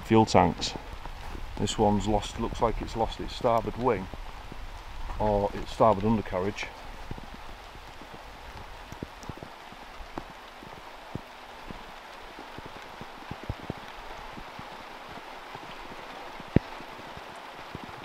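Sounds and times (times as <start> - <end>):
light rain hiss: 0.0 - 18.0.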